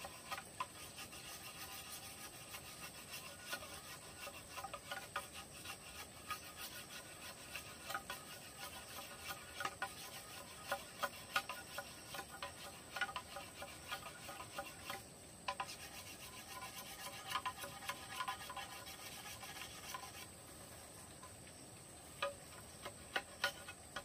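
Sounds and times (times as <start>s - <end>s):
machete scraping bamboo: 0.0s - 21.4s, 22.2s - 24.0s.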